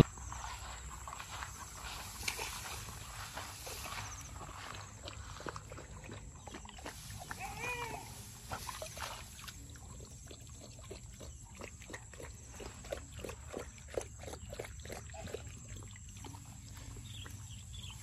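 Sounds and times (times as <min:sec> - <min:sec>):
dog lapping water: 0:01.8 - 0:07.4, 0:08.5 - 0:18.0.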